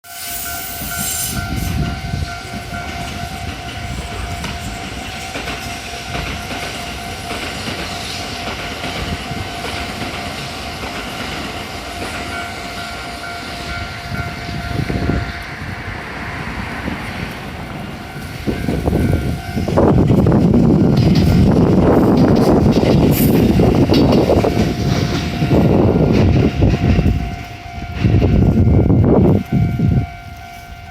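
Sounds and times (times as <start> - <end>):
level crossing warning bell: 0.0 - 30.9
train rumble: 0.0 - 30.9
train wheels clacking over rail joints: 0.3 - 29.6.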